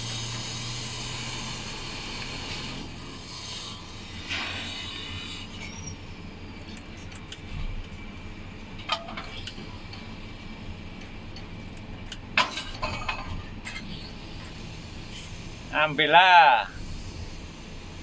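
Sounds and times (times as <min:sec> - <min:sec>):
steady low hum: 0:03.0 - 0:18.0.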